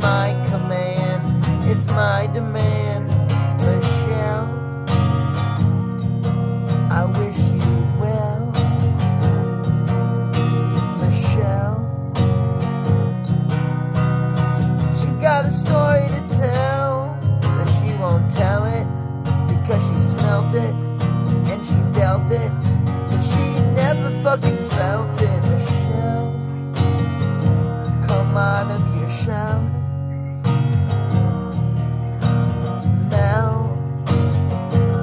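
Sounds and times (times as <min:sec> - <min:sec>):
person singing wordlessly: 0:00.0 - 0:04.8, 0:05.6 - 0:12.0, 0:14.9 - 0:29.8, 0:32.7 - 0:35.0
acoustic guitar strumming: 0:00.0 - 0:35.0.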